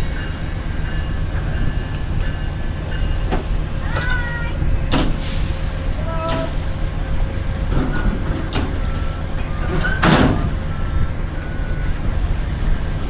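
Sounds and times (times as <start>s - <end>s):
idling train rumble: 0.0s - 13.0s.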